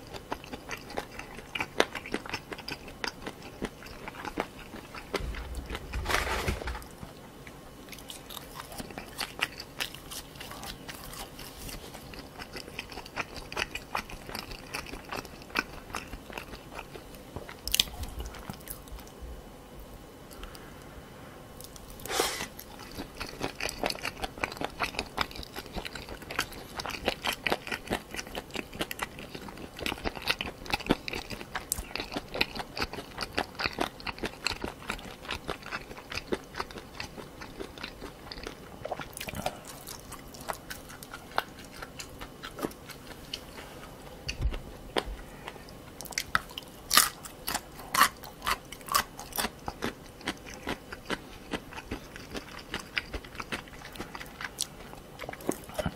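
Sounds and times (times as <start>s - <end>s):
chewing crunchy gristle: 0.0s - 19.2s, 21.6s - 55.9s.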